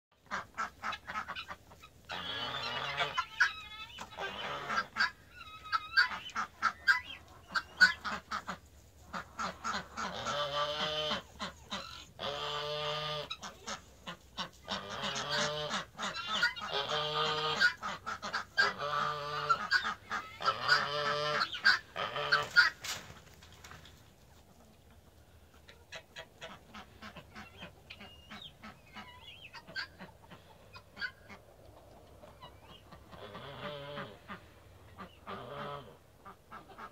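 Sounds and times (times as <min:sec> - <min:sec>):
chickens and ducks calling: 0:00.2 - 0:36.9.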